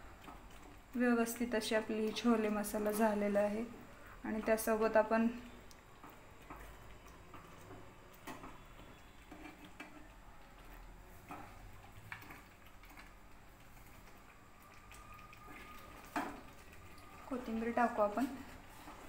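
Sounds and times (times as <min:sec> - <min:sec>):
spoon stirring in pan: 0:00.0 - 0:19.0.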